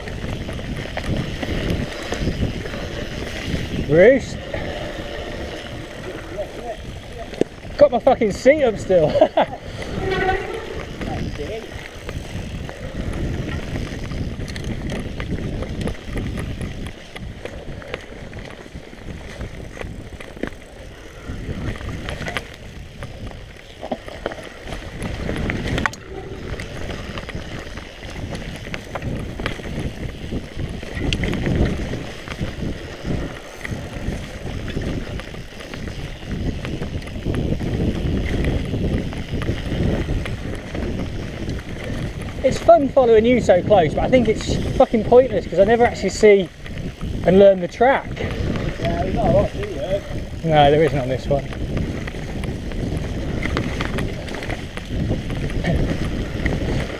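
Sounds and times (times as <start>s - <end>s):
bike rattling over rough ground: 0.0s - 56.9s
bike tyres rumbling on dirt: 0.0s - 56.9s
wind on microphone: 0.0s - 56.9s.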